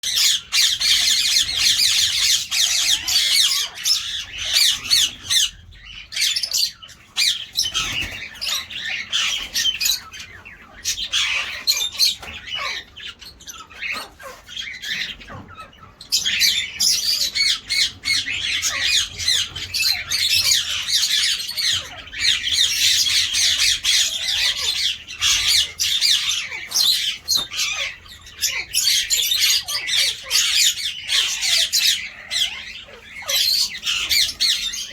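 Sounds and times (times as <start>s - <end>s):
parakeets squawking and chattering: 0.0s - 34.9s.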